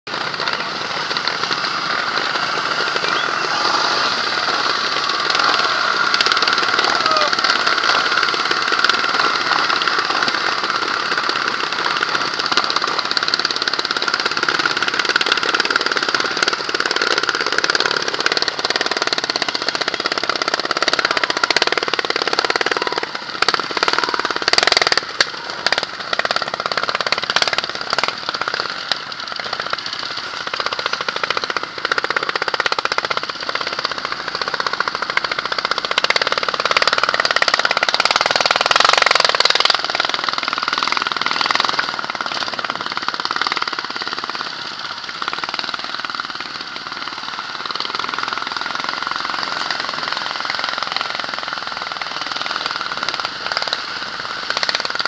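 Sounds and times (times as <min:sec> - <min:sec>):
motorcycle engines chugging: 0:00.0 - 0:55.0.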